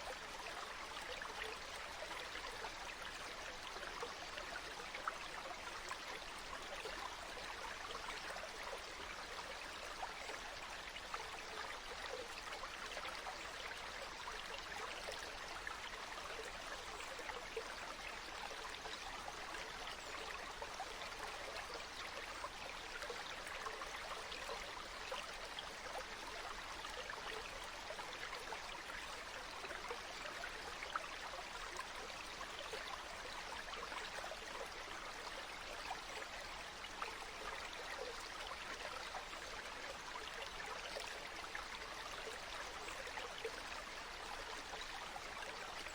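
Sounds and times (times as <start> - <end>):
stream water babbling: 0.0 - 45.9.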